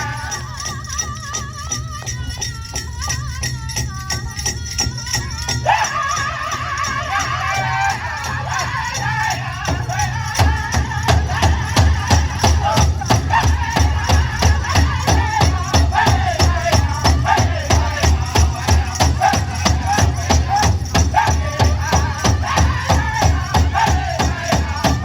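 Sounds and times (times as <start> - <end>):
voices chanting: 0.0 - 1.4, 5.4 - 25.0
steady drum beat: 4.8 - 25.0.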